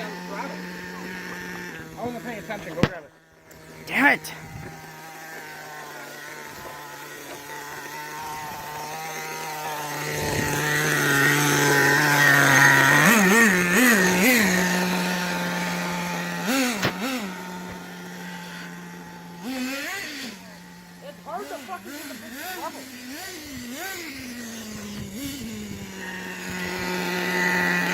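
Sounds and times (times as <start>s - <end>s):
engine throttle blips: 0.0s - 27.9s
small engine idling: 0.0s - 27.9s.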